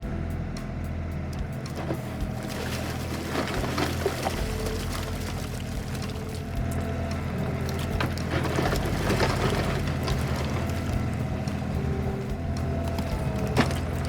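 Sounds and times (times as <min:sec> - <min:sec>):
tractor diesel engine running: 0:00.0 - 0:14.0
rush of gritty noise: 0:01.3 - 0:14.0.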